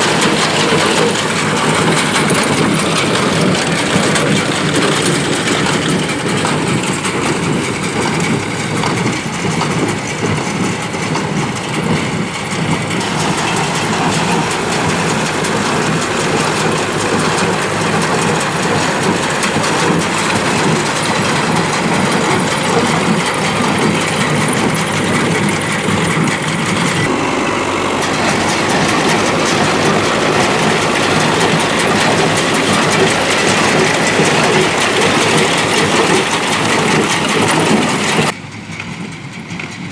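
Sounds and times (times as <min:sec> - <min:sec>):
baler mechanical clatter: 0:00.0 - 0:39.9
tractor engine running: 0:00.0 - 0:39.9.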